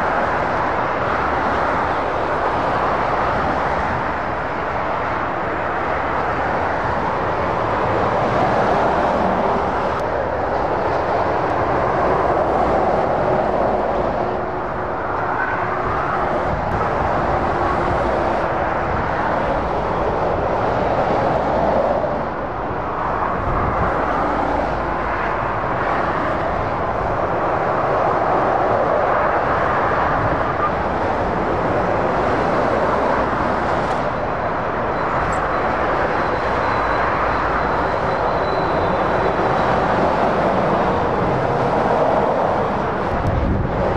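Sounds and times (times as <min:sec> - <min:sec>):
truck diesel engines: 0:00.0 - 0:43.9
tyre noise of passing traffic: 0:00.0 - 0:43.9.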